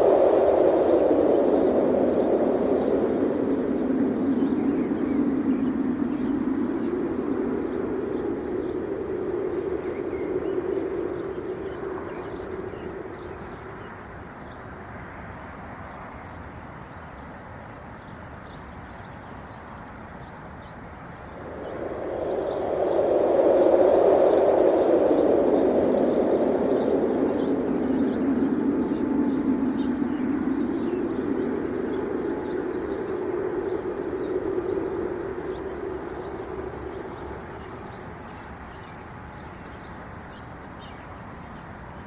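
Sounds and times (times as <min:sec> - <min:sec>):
faint bird chirps: 0:00.0 - 0:42.0
wind gusting: 0:00.0 - 0:42.0.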